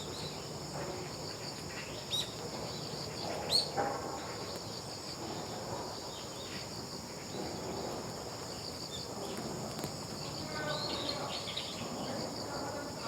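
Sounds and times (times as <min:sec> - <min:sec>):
insects trilling: 0:00.0 - 0:13.0
outdoor background hiss: 0:00.0 - 0:13.0.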